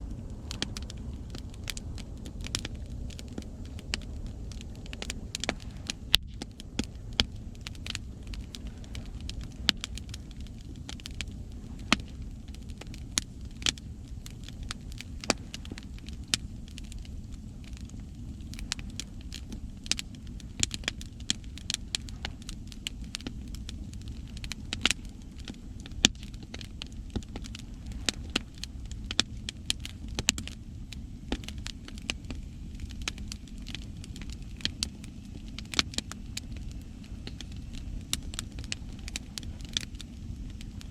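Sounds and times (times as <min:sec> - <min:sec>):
ocean waves rumbling: 0:00.0 - 0:30.5, 0:31.4 - 0:40.9
campfire crackling and popping: 0:00.0 - 0:40.9.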